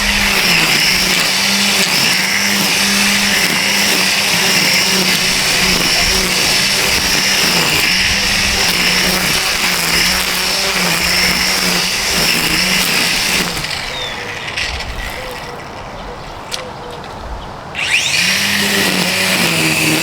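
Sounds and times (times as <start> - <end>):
string trimmer whining: 0.0 - 20.0.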